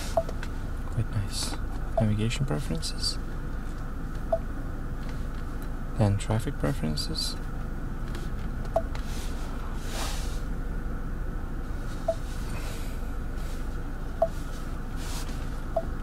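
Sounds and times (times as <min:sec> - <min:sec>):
low cabin hum: 0:00.0 - 0:16.0.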